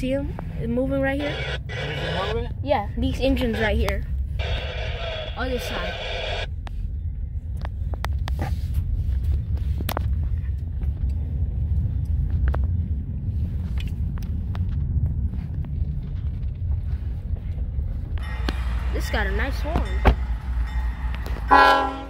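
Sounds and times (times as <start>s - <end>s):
car interior rumble: 0.0s - 22.0s.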